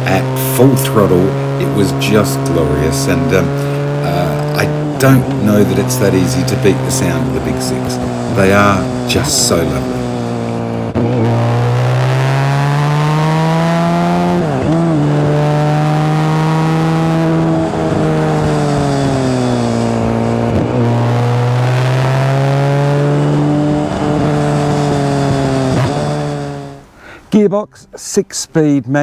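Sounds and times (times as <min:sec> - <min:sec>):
motorcycle engine running: 0:00.0 - 0:26.8.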